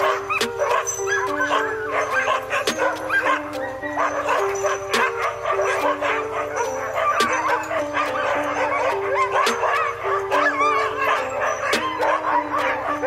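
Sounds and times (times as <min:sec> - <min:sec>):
background music with held notes: 0:00.0 - 0:13.0
dogs barking and howling: 0:00.0 - 0:13.0
sharp dog barks: 0:00.0 - 0:13.0.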